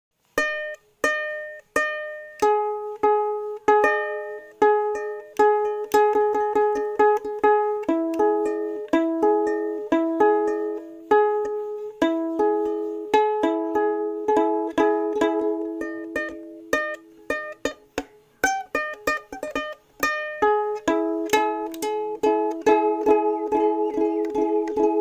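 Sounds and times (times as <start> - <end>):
plucked string melody: 0.2 - 25.0.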